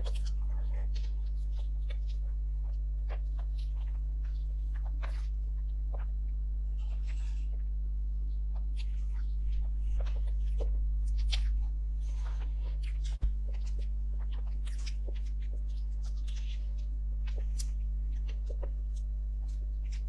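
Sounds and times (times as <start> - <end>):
person chewing: 0.0 - 6.1, 8.6 - 20.0
low electrical hum: 0.0 - 20.0.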